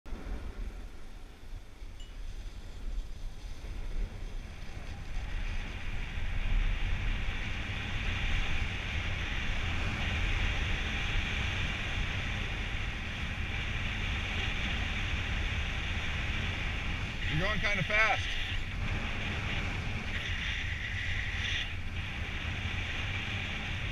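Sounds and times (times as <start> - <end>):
wind buffeting microphone: 0.1 - 23.9
snowboard scraping over snow: 2.2 - 23.9.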